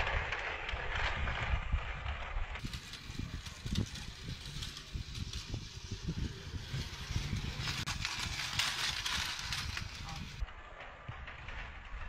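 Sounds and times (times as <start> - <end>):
toy motor whirr: 0.0 - 10.4
toy train clattering on track: 0.0 - 12.0.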